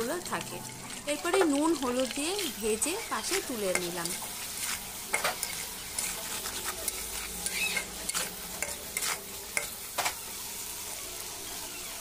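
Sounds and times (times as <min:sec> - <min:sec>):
spatula scraping and knocking pan: 0:00.0 - 0:10.2
prawns sizzling in oil: 0:00.0 - 0:12.0.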